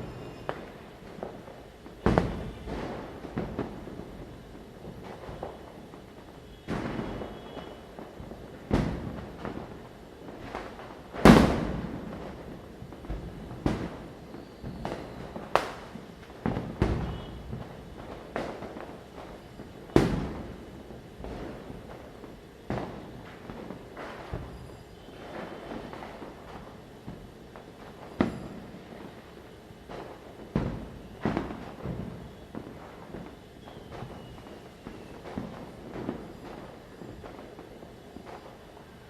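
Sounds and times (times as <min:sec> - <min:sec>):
firecrackers bursting: 0:00.0 - 0:39.0.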